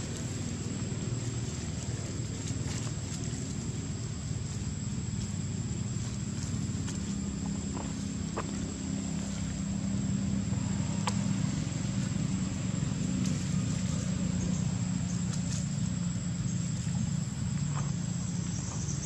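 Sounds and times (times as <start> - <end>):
engine running hum: 0.0 - 19.0.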